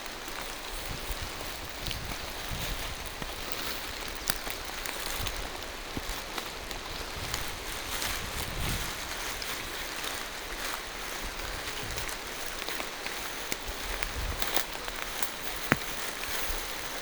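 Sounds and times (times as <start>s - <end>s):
rain falling through trees: 0.0s - 17.0s.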